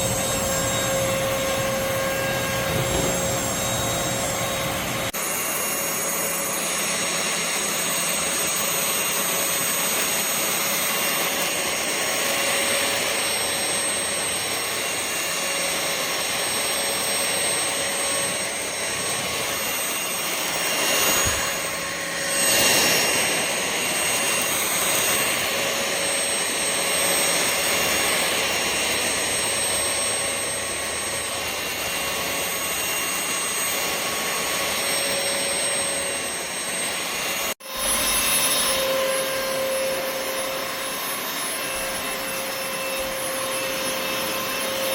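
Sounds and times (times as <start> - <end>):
stick vacuum whining: 0.0 - 44.9.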